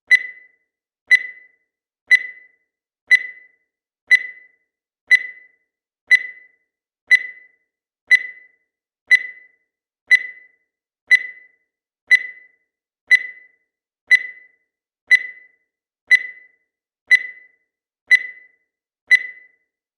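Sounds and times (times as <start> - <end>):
digital timer beeping: 0.1 - 19.8.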